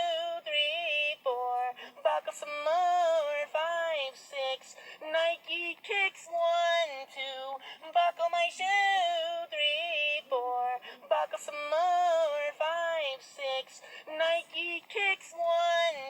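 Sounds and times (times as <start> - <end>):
synthetic voice singing: 0.0 - 16.0.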